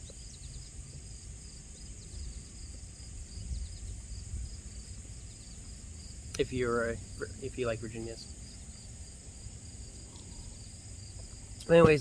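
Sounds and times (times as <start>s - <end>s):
insects buzzing and chirping: 0.0s - 12.0s.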